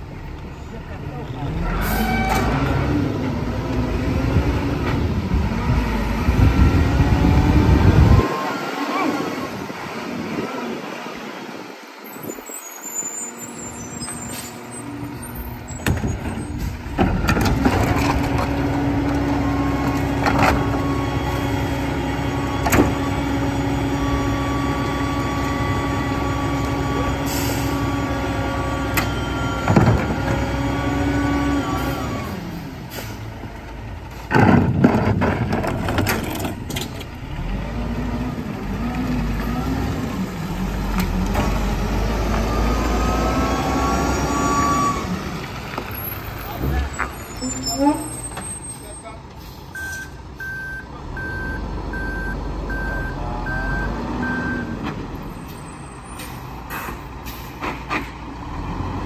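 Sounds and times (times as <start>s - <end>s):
garbage truck diesel engine: 0.0s - 59.0s.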